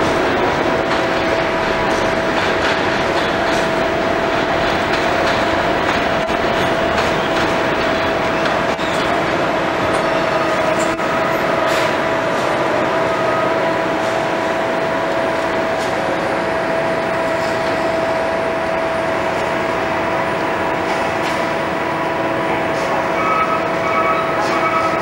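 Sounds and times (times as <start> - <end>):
rumbling rail noise: 0.0 - 25.0
subway train electric hum: 0.0 - 25.0.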